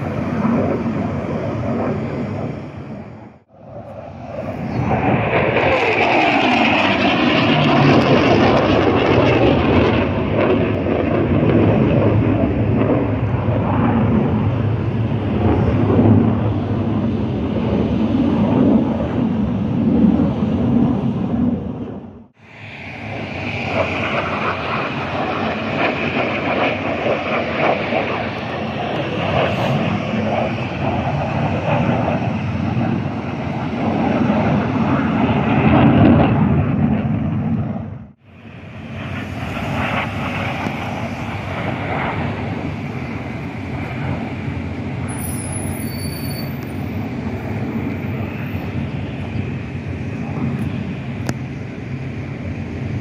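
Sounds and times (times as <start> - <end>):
airplane engine rumble overhead: 0.0 - 53.0.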